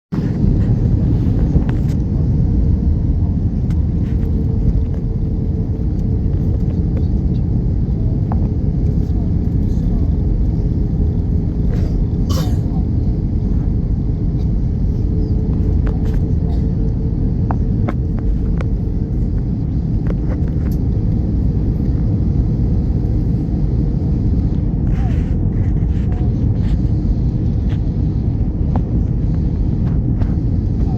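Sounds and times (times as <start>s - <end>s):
airplane cabin rumble: 0.1s - 30.9s.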